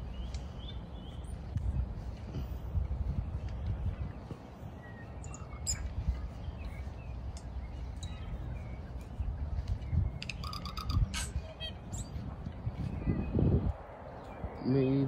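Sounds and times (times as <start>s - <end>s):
birds chirping faintly: 0.0s - 15.0s
low outdoor rumble: 0.0s - 15.0s.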